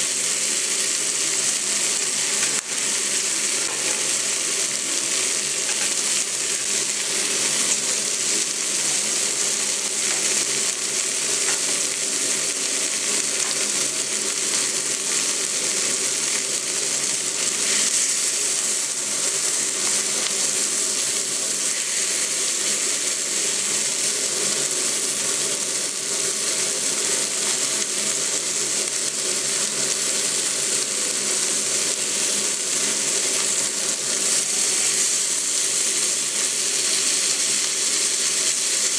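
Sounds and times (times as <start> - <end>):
meat sizzling on a griddle: 0.0 - 38.9.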